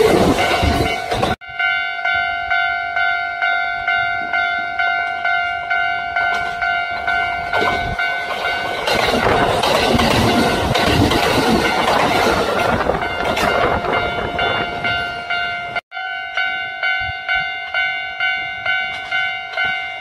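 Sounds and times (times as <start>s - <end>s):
electric train running past: 0.0s - 20.0s
level-crossing alarm bell ringing: 0.0s - 20.0s
train running noise: 0.0s - 20.0s.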